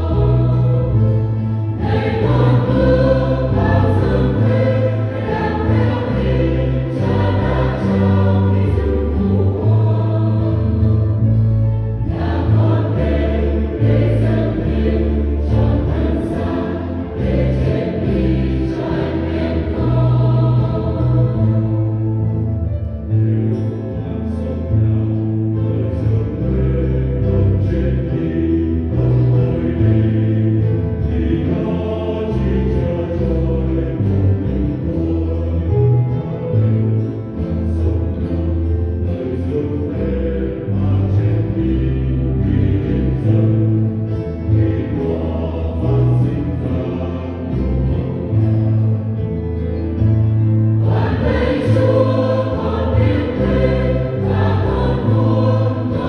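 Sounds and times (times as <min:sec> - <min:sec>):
bass line: 0:00.0 - 0:56.0
choir singing a hymn: 0:00.0 - 0:56.0
instrumental accompaniment: 0:00.0 - 0:56.0.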